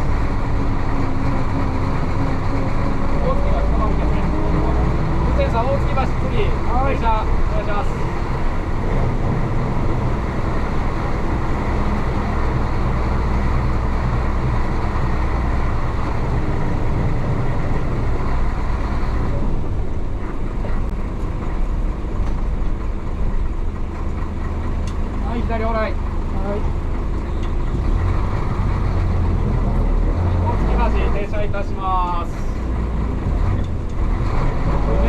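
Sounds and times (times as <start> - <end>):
diesel bus engine running: 0.0 - 35.0
road noise: 0.0 - 35.0.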